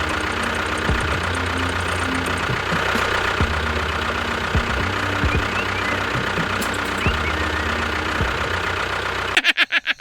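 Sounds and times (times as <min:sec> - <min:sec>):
small motor humming: 0:00.0 - 0:09.4.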